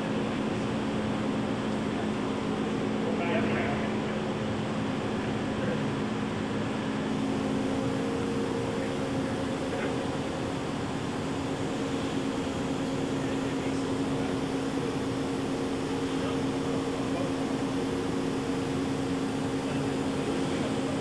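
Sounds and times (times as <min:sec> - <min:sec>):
higher machine hum: 0:00.0 - 0:21.0
low machine drone: 0:00.0 - 0:21.0.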